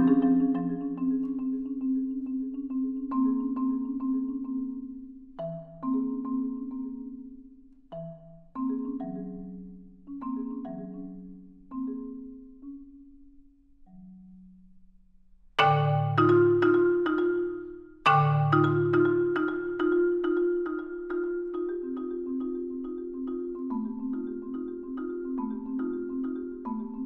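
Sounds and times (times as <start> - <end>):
marimba played with mallets: 0.0 - 14.9, 15.6 - 27.0.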